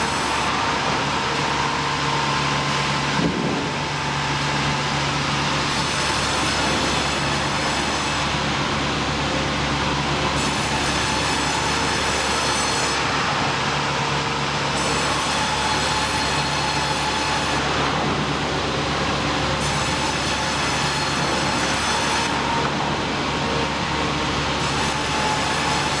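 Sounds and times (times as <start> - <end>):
high mechanical whine: 0.0 - 26.0
sawmill machinery rumble: 0.0 - 26.0.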